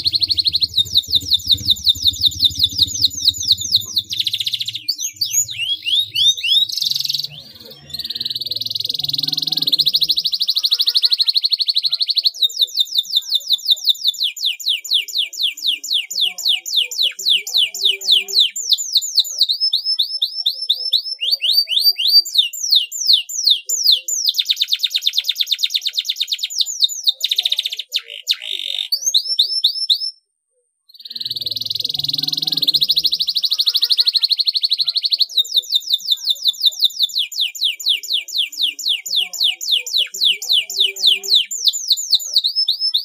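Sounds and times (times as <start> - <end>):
canary singing: 0.0 - 30.2, 30.9 - 43.0.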